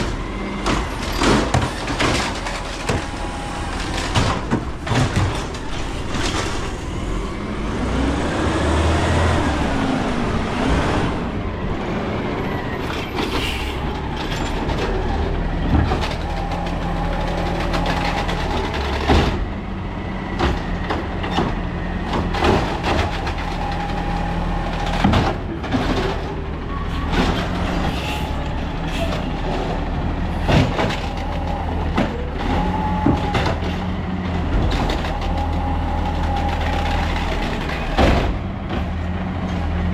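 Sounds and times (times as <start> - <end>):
garbage truck engine running: 0.0 - 39.9
hydraulics whining: 0.0 - 39.9.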